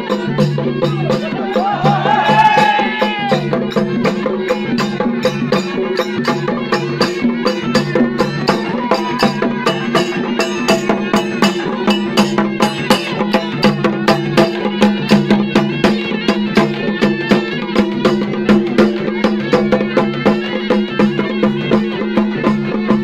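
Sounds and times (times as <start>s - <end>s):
fast drumbeats: 0.0s - 23.0s.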